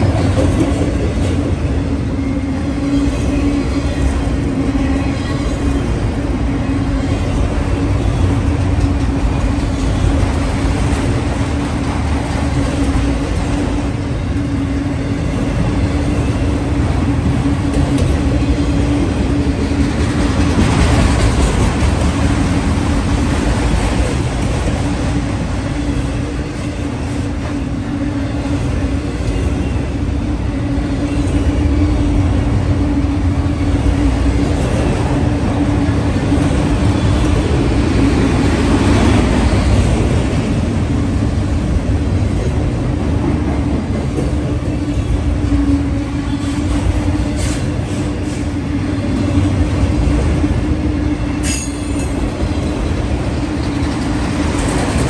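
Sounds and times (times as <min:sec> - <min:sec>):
freight train wheels clattering: 0:00.0 - 0:55.0.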